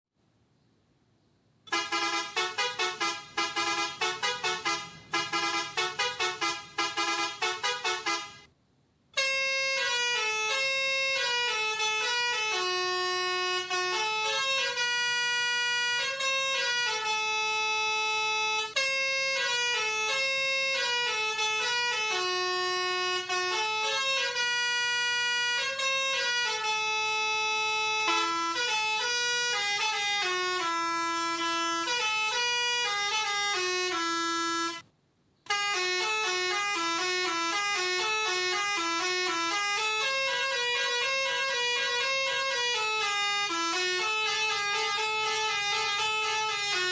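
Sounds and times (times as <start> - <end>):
melodica playing a tune: 1.7 - 8.5, 9.2 - 34.9, 35.5 - 46.9.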